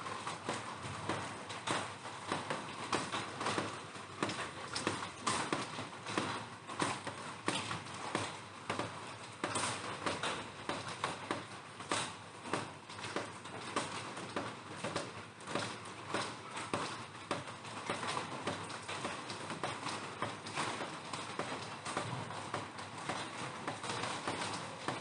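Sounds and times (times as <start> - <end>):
raindrops tapping on plastic roof: 0.0 - 25.0.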